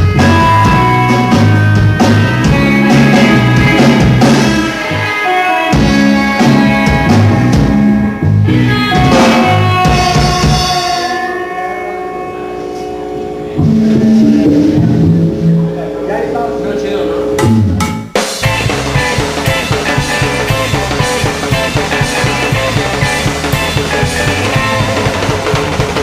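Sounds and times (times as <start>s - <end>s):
rock band playing: 0.0s - 26.0s
held guitar note ringing: 0.1s - 25.3s.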